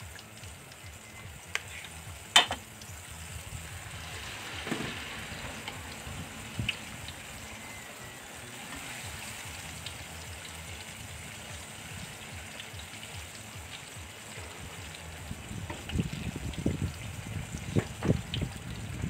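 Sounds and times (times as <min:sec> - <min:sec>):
oil sizzling and bubbling: 0:00.0 - 0:19.0.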